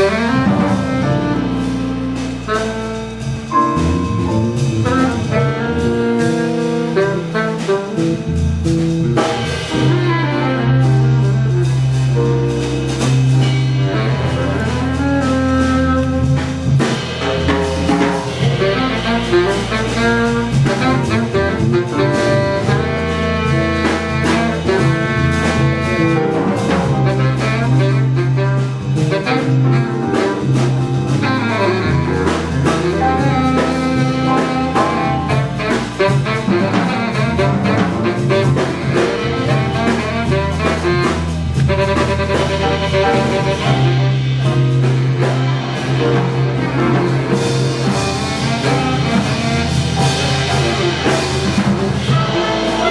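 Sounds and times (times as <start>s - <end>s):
drum kit: 0.0s - 52.9s
jazz big band playing: 0.0s - 52.9s
walking double bass: 0.0s - 52.9s.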